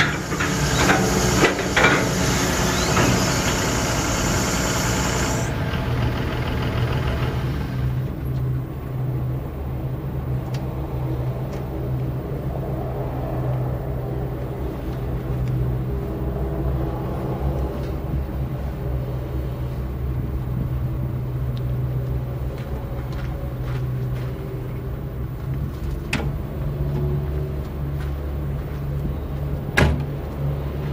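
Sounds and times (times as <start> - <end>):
excavator diesel engine humming: 0.0 - 30.9.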